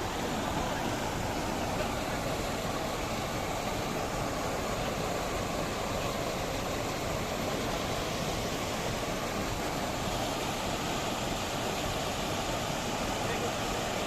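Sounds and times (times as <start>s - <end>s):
river rushing in flood: 0.0s - 14.0s.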